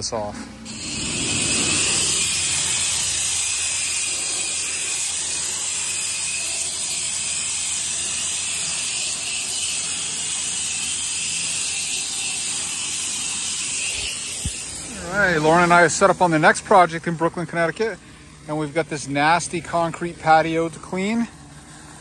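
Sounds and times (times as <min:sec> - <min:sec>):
pressure washer water jet hissing: 0:00.7 - 0:22.0.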